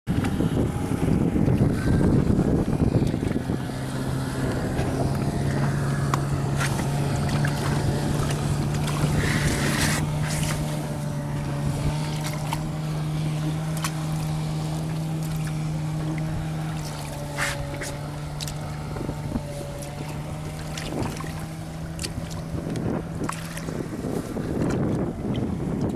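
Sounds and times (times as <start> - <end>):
choppy water: 0.1 - 25.9
outboard motor running: 0.1 - 25.9
wind on microphone: 0.1 - 25.9.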